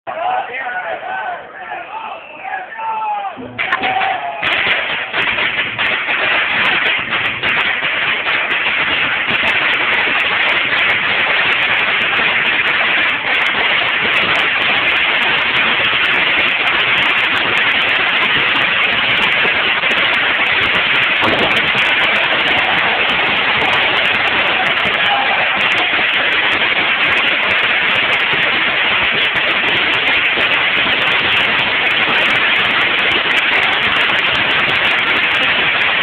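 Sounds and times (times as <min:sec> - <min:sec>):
firecrackers crackling: 0:03.4 - 0:36.0.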